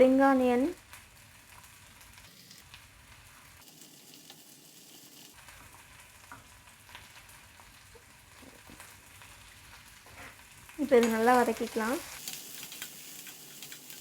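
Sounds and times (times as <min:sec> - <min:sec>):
onions sizzling in a pan: 0:00.0 - 0:14.0.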